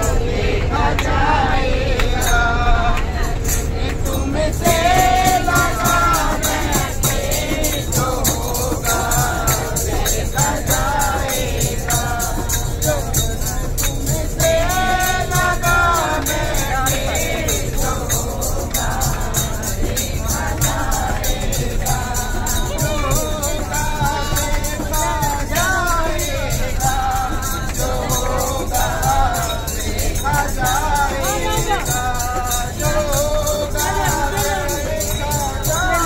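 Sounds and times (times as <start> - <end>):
bus engine rumble: 0.0 - 36.0
men singing devotional song: 0.0 - 36.0
fast percussive beat: 4.4 - 36.0.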